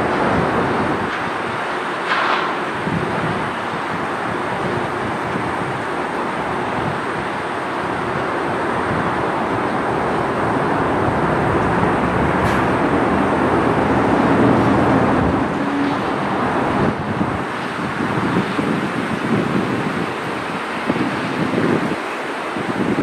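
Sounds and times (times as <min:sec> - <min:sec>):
jet engines passing: 0:00.0 - 0:23.0.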